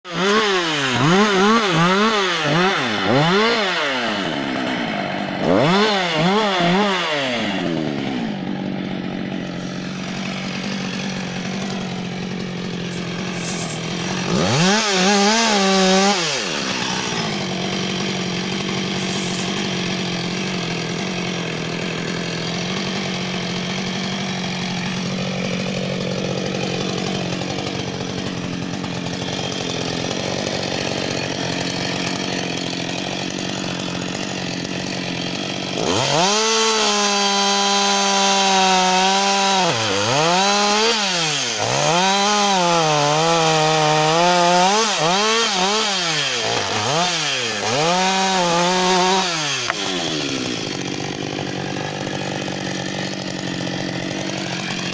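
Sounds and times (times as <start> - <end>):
chainsaw revving and idling: 0.0 - 54.9.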